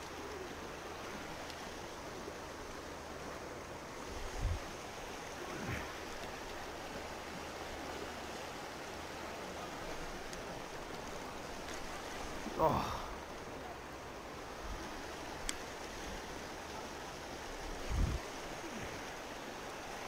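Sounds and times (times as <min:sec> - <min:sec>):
river rushing over gravel: 0:00.0 - 0:20.0.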